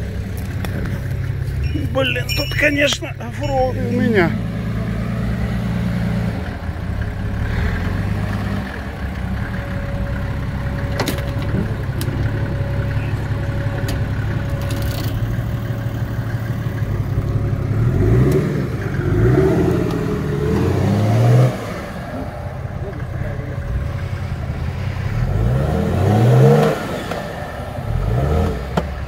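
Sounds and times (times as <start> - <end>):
off-road vehicle engine: 0.0 - 29.0.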